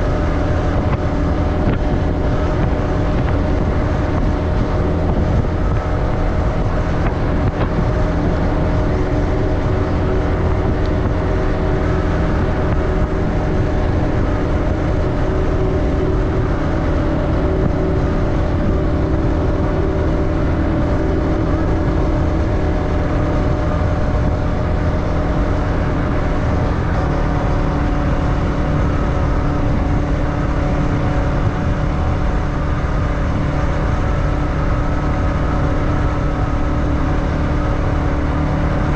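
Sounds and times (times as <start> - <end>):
motorbike engine running: 0.0 - 38.9
road noise: 0.0 - 38.9.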